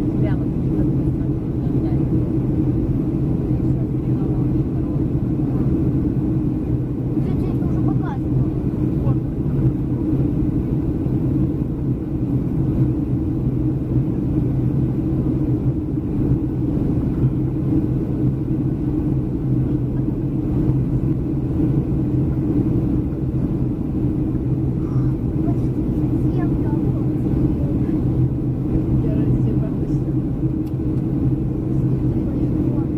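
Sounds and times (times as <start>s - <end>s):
airplane cabin engine rumble: 0.0s - 32.9s
constant low hum: 0.0s - 32.9s.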